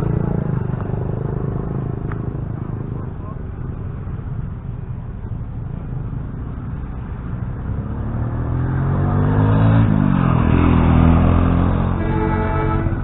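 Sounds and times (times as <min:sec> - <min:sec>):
vehicle engine approaching: 0:00.0 - 0:13.0.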